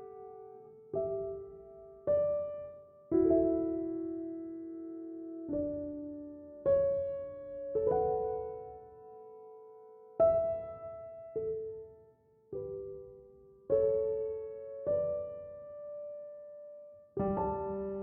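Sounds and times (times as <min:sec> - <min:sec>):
slow gentle piano music: 0:00.0 - 0:18.0.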